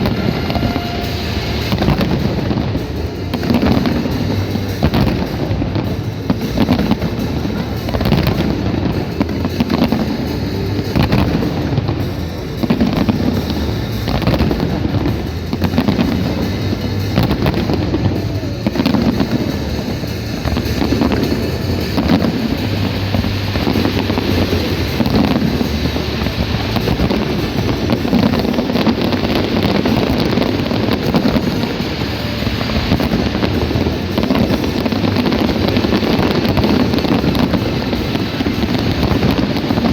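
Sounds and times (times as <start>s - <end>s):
fireworks bangs and crackles: 0.0s - 39.9s
low rumble: 0.0s - 39.9s
music playing: 0.0s - 39.9s.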